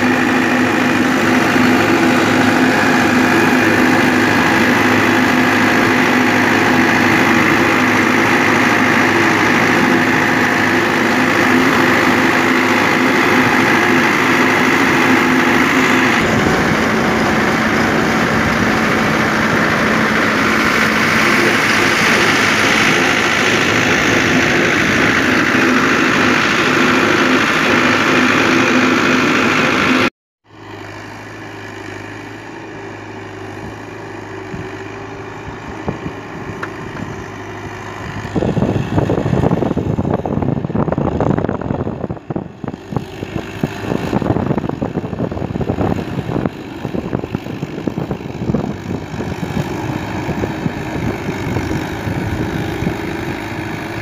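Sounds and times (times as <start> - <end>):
rushing wind gusts: 0.0 - 28.4, 34.4 - 54.0
diesel engine running loud: 0.0 - 54.0
distant tractor engine humming: 0.0 - 54.0.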